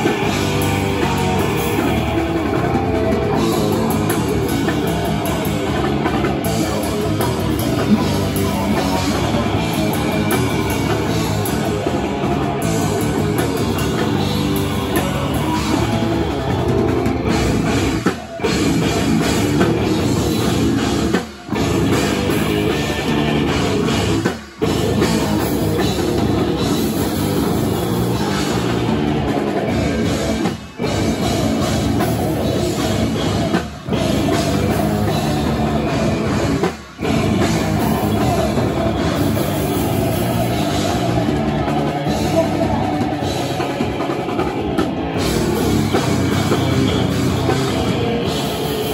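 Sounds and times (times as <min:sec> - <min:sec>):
bass guitar: 0:00.0 - 0:48.9
drum kit: 0:00.0 - 0:48.9
electric guitars: 0:00.0 - 0:48.9.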